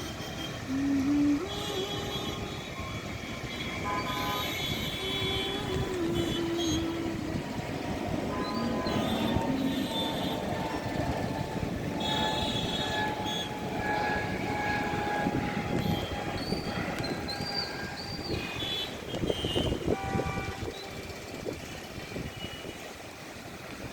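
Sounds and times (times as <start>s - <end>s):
vehicle horns honking: 0.0s - 0.7s, 1.3s - 7.3s, 8.1s - 22.9s
traffic engine noise: 0.0s - 23.9s.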